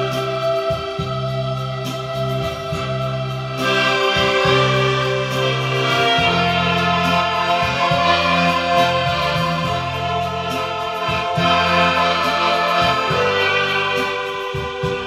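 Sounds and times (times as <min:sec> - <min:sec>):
accordion playing a tune: 0:00.0 - 0:15.0.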